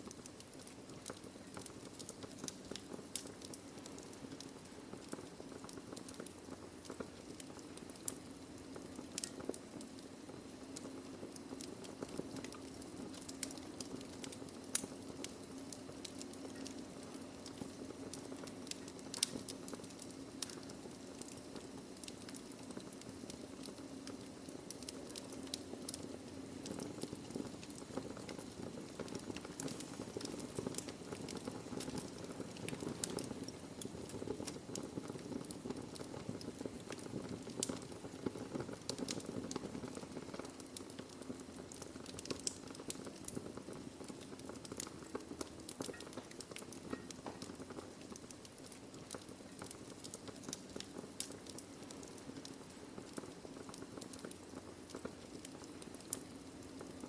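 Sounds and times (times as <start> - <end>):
logs crackling and popping: 0.0 - 57.0
low hiss of fire: 0.0 - 57.0
sharp snaps of fire: 0.0 - 57.0.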